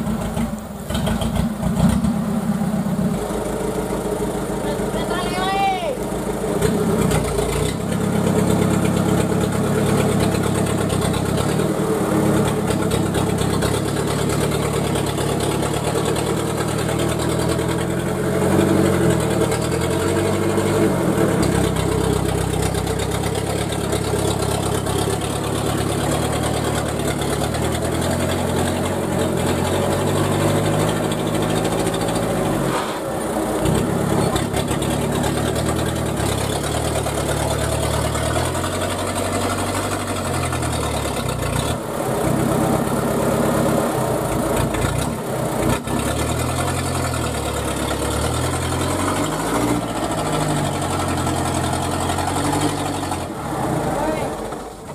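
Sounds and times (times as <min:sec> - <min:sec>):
truck engine labouring: 0:00.0 - 0:54.9.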